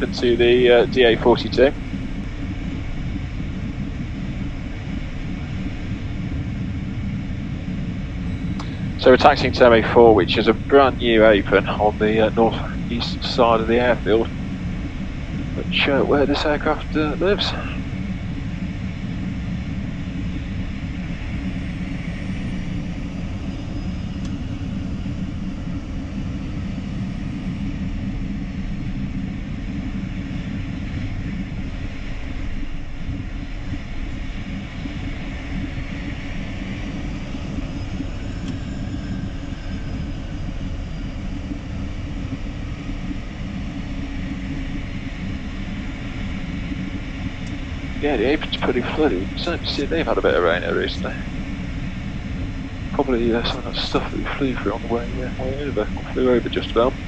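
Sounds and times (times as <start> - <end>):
faint high whine: 0.0 - 57.0
jet engines idling rumble: 0.0 - 57.0.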